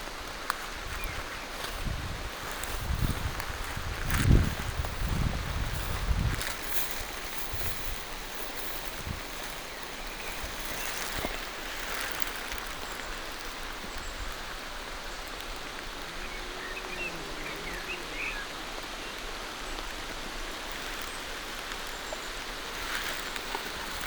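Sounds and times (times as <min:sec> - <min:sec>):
rain on leaves: 0:00.0 - 0:24.0.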